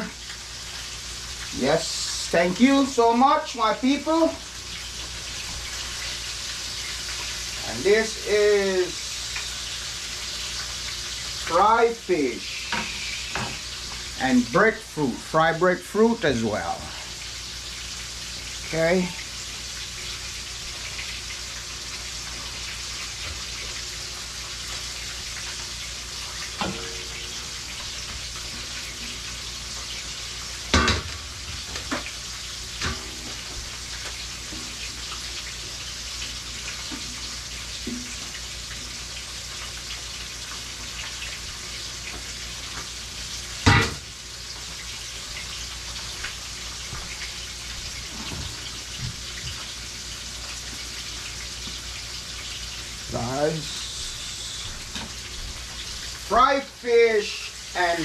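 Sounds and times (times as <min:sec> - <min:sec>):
fish sizzling in hot oil: 0:00.0 - 0:58.0.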